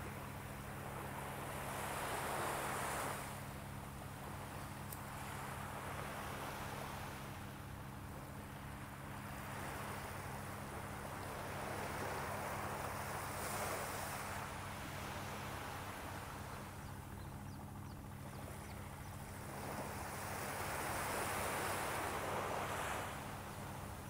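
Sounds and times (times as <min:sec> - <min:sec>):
small waves washing on beach: 0:00.0 - 0:16.8, 0:18.2 - 0:24.0
steady low hum: 0:00.0 - 0:24.0.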